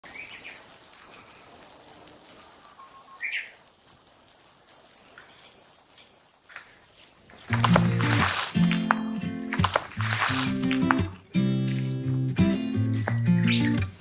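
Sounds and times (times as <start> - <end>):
insects buzzing: 0.1 - 14.0.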